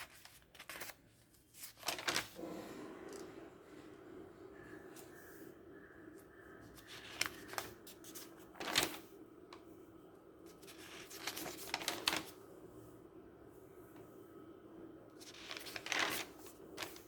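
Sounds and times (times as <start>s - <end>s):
steady low hum: 2.2s - 17.0s.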